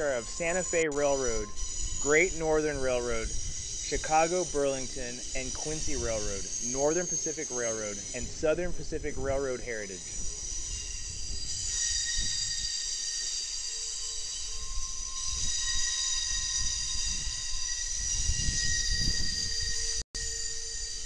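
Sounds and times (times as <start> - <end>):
train wheels squealing: 0.0 - 21.0.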